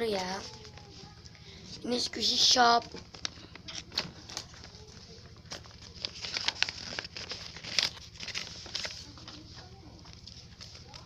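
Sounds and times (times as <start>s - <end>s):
paper rustling and crinkling: 2.0s - 11.0s.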